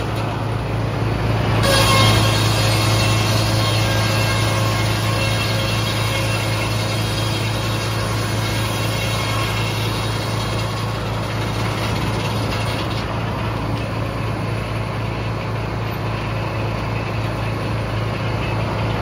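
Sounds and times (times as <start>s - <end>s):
sawmill engine drone: 0.0s - 19.0s.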